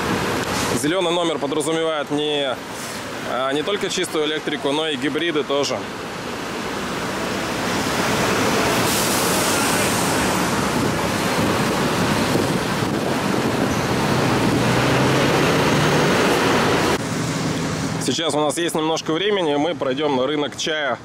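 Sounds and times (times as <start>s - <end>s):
heavy truck engine hum: 0.0s - 21.0s
road traffic passing: 0.0s - 21.0s.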